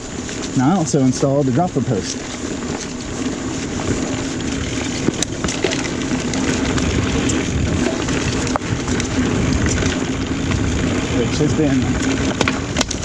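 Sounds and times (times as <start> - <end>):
bike clicks and rattles: 0.0 - 13.0
bike tyres on dirt trail: 0.0 - 13.0.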